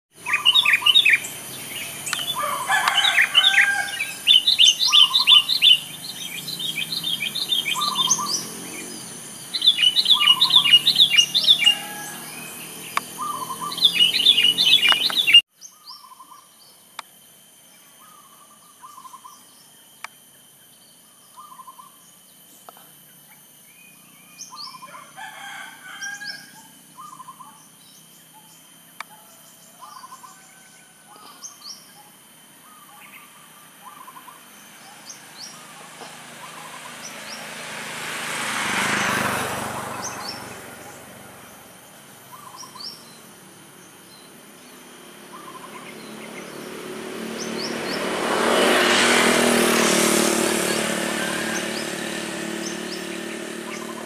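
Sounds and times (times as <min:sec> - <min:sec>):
dove calling: 0:00.1 - 0:16.5, 0:24.1 - 0:41.6, 0:42.2 - 0:54.0
rapid high bird chirps: 0:00.1 - 0:54.0.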